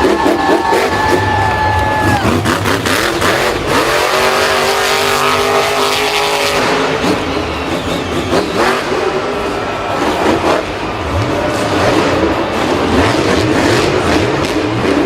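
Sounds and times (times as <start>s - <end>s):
engine running and revving: 0.0s - 15.0s.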